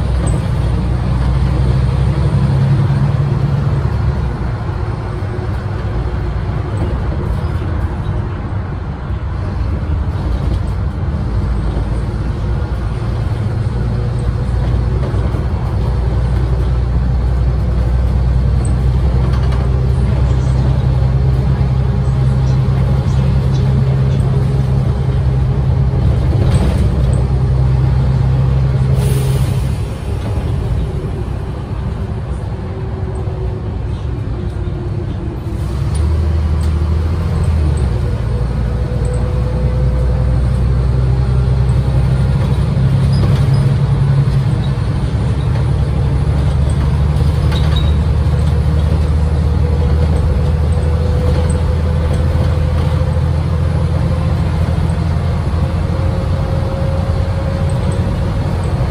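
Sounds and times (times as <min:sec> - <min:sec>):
bus engine running: 0:00.0 - 0:58.9.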